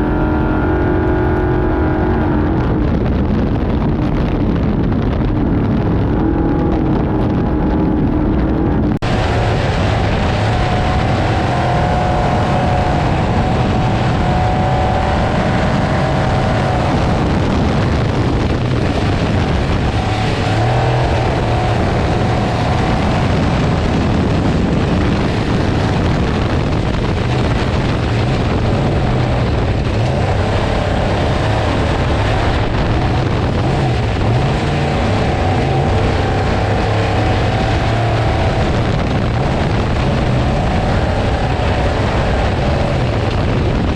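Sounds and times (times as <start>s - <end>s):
race truck engine running hard: 0.0s - 43.9s
wind and terrain noise: 0.0s - 43.9s.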